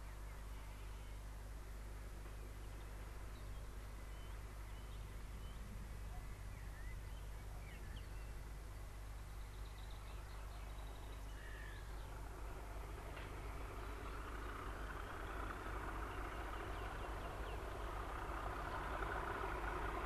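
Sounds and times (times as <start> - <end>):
small birds chirping: 0.0 - 1.3, 2.1 - 20.0
distant locomotive rumble: 0.0 - 20.0.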